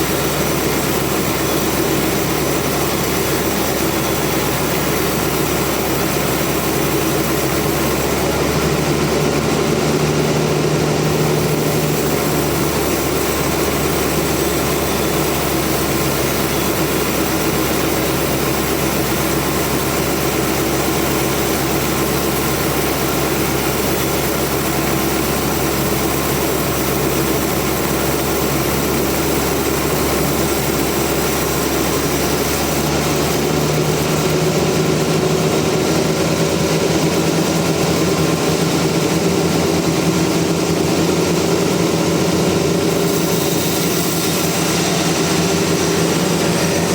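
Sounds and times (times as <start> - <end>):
sawmill machinery drone: 0.0 - 46.9.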